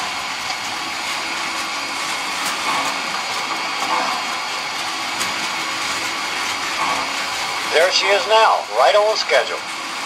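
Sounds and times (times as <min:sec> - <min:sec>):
model trains whirring: 0:00.0 - 0:10.0.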